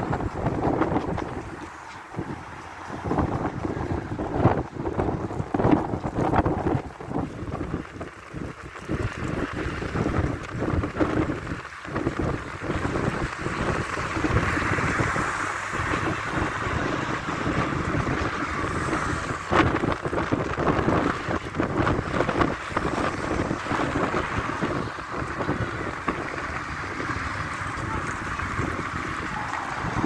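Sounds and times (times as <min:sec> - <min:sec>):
cars driving past: 0:00.0 - 0:30.0
street traffic: 0:00.0 - 0:30.0
wind buffeting microphone: 0:00.0 - 0:30.0.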